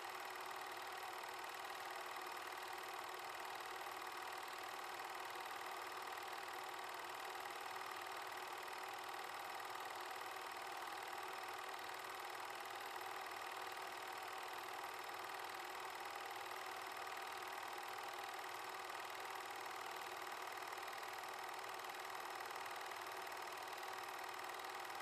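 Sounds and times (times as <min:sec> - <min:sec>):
film projector whirring: 0:00.0 - 0:25.0.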